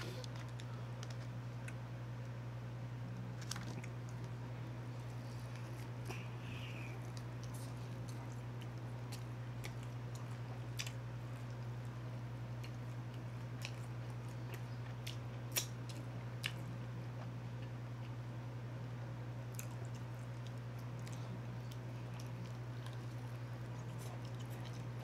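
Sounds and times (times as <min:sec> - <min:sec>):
chewing chicken wings: 0:03.4 - 0:18.2, 0:19.5 - 0:25.0.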